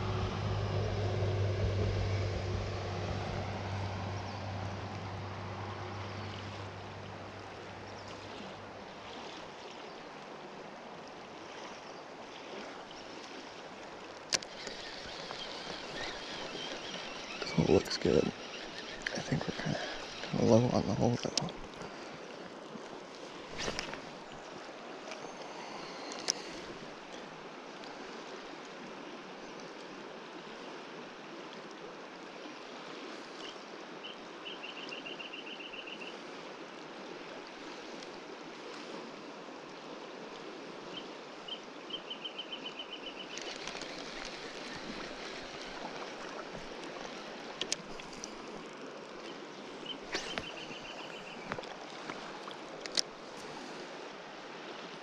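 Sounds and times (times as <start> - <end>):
river flowing over gravel: 0.0 - 34.4, 36.2 - 55.0.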